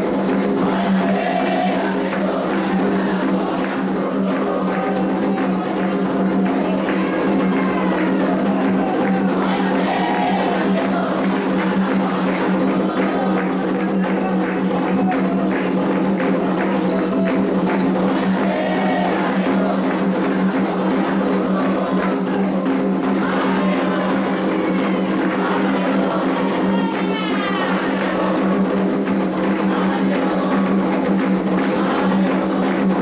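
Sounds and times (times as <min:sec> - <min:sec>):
hand drums playing: 0:00.0 - 0:33.0
voices singing: 0:00.0 - 0:33.0.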